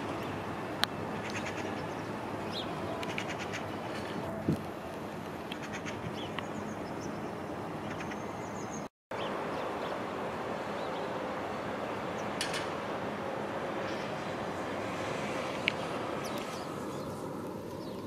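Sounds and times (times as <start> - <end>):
tram rolling rumble and hiss: 0.0 - 18.0.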